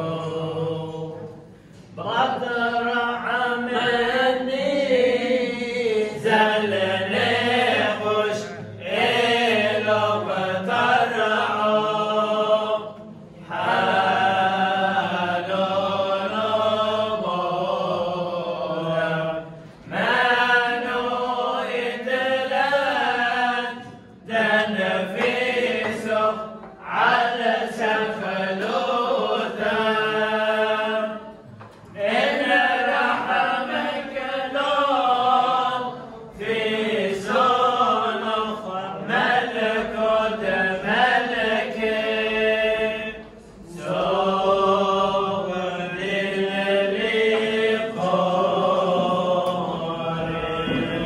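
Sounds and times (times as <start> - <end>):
men chanting a hymn: 0.0 - 51.0.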